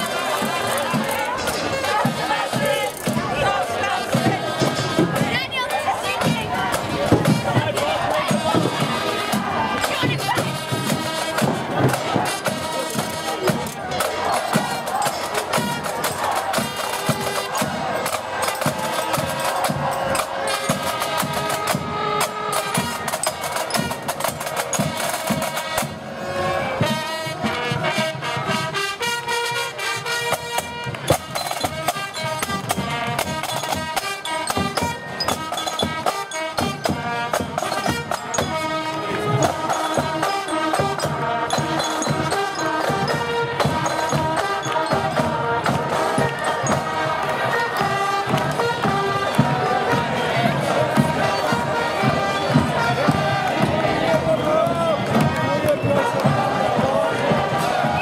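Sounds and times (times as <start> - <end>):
snare and bass drums: 0.0 - 26.1, 26.8 - 58.0
marching band melody: 0.0 - 58.0.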